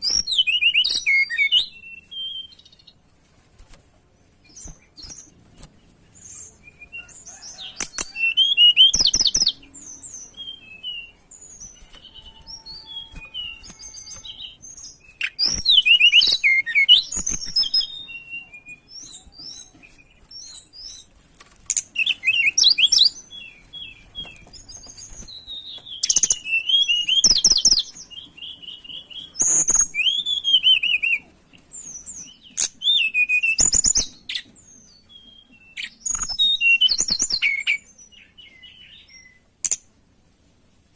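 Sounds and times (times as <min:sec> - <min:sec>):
soft bird chirps: 0:04.0 - 0:39.9.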